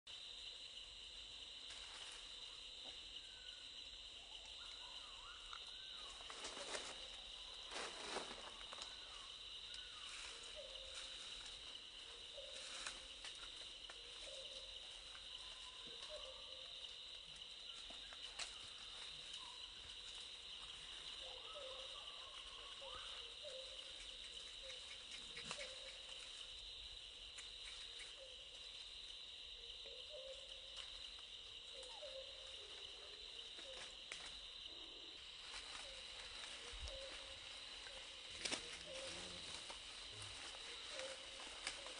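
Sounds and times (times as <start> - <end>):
high-pitched insect chorus: 0.1 - 41.9.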